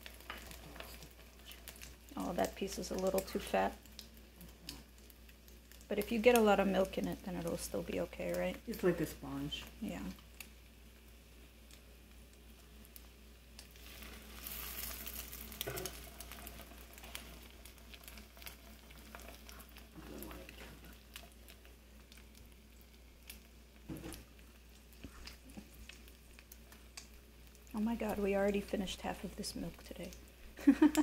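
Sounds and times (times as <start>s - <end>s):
bread sizzling in a pan: 0.0s - 31.0s.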